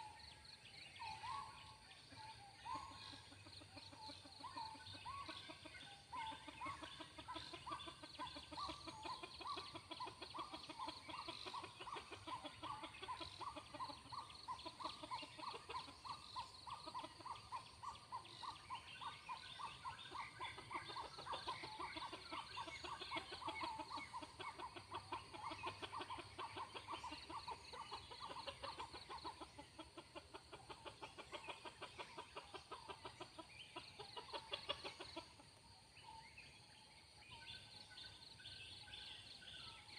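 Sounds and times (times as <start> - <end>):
junglefowl clucking: 0.0 - 36.0.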